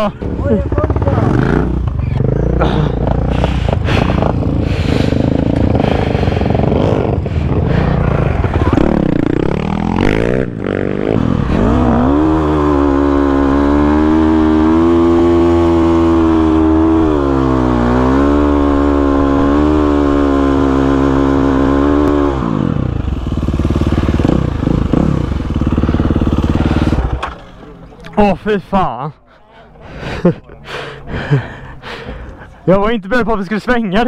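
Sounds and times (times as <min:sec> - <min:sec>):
motorcycle engine at high revs: 0:00.0 - 0:27.5.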